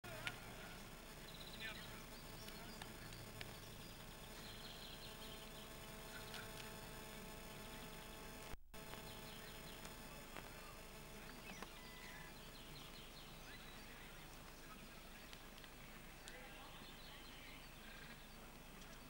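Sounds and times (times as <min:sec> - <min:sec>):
low steady hiss: 0:00.1 - 0:19.0
faint bird chirps: 0:00.4 - 0:07.0, 0:08.8 - 0:19.0.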